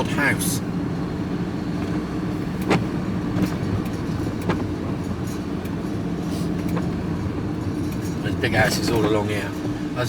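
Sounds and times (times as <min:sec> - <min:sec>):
engine and road drone in vehicle: 0:00.0 - 0:10.0.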